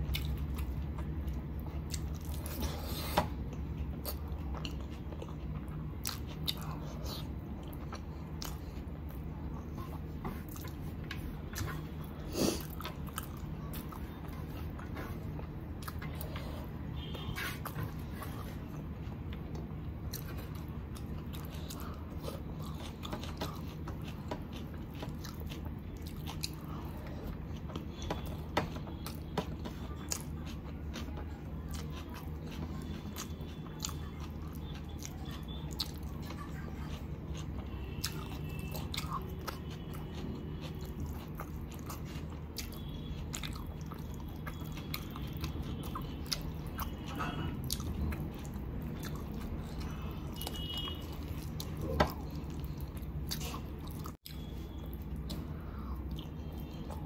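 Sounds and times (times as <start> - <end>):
person chewing and biting food: 0.0 - 57.0
steady low hum: 0.0 - 57.0.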